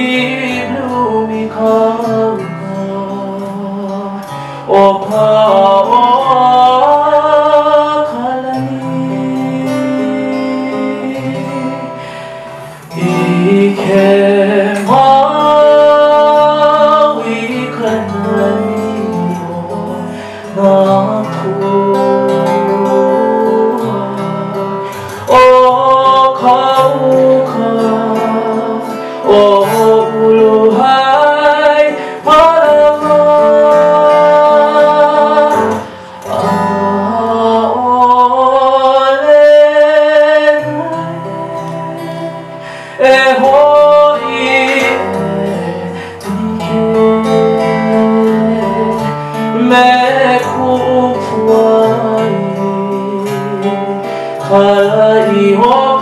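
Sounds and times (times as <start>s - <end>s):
man singing with vibrato: 0.0s - 56.0s
strummed acoustic guitar: 0.0s - 56.0s.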